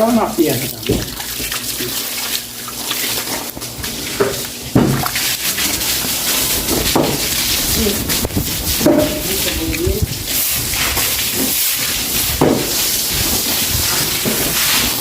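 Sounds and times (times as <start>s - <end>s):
broom scrubbing wet floor: 0.0s - 15.0s
water running and splashing: 0.0s - 15.0s.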